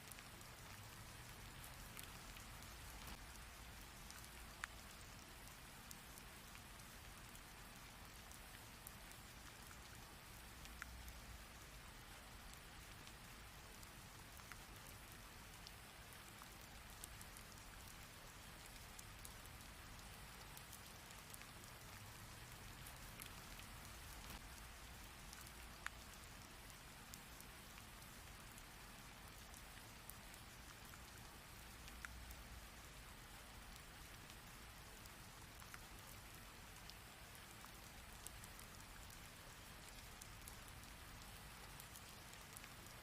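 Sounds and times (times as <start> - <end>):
rain hiss: 0.0 - 43.0
raindrop ticks: 0.0 - 43.0.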